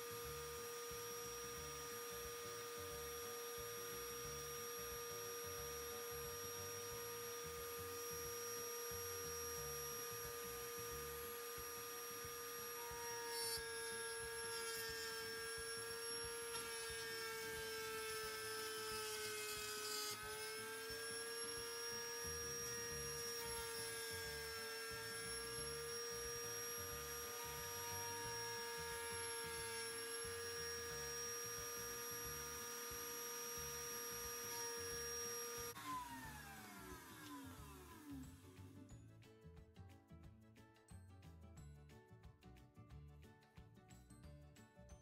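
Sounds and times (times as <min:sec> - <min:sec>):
router cutting wood: 0:00.0 - 0:38.5
router whining: 0:00.0 - 0:38.5.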